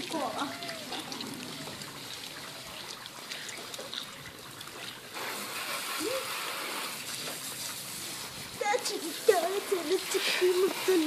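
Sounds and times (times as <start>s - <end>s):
hose water spraying on car: 0.0s - 11.0s.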